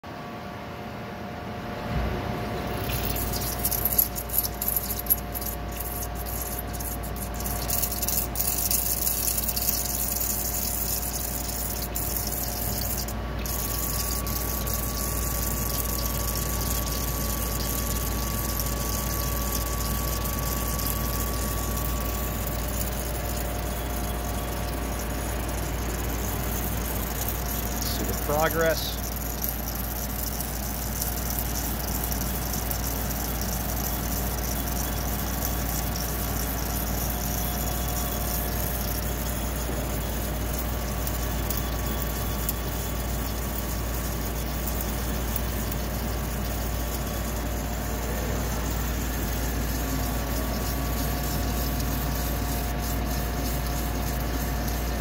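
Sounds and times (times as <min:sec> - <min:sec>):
low pump hum: 0:01.2 - 0:55.0
flushing fluid hiss and splash: 0:02.6 - 0:55.0.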